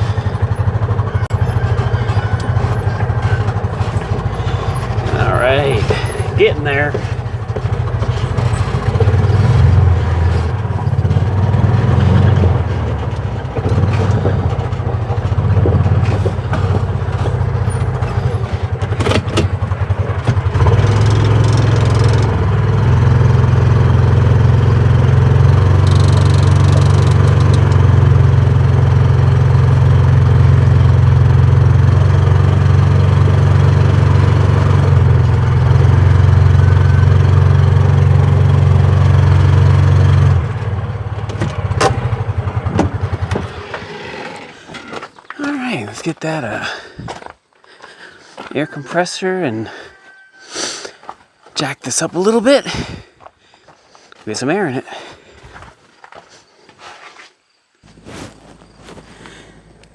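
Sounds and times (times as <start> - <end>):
engine knocks and rattles: 0.0 - 49.0, 51.0 - 56.2, 57.9 - 59.9
vehicle engine running: 0.0 - 50.2, 57.9 - 59.9.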